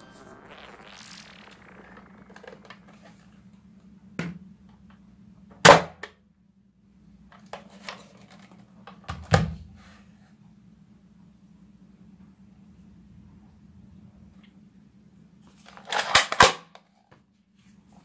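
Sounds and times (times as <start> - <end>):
faint steady hum: 0.0 - 15.8.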